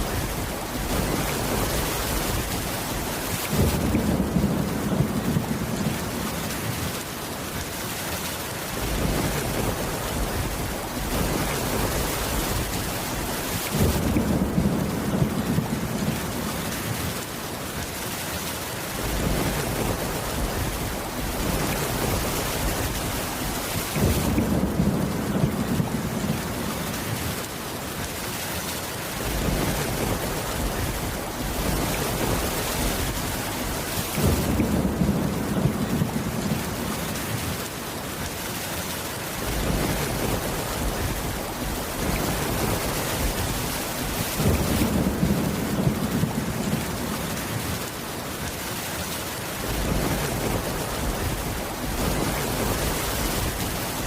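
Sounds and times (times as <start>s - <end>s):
rolling thunder: 0.0s - 7.0s, 8.8s - 17.2s, 19.0s - 27.4s, 29.2s - 37.7s, 39.4s - 47.8s, 49.6s - 54.0s
heavy rain: 0.0s - 54.0s.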